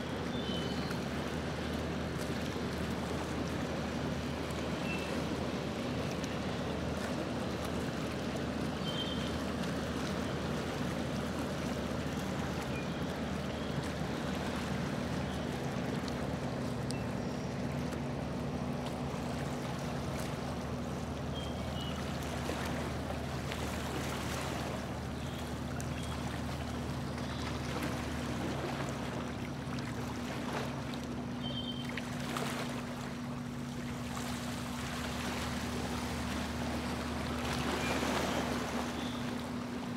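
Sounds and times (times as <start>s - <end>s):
boat motor humming: 0.0s - 39.9s
water rushing along hull: 0.0s - 39.9s.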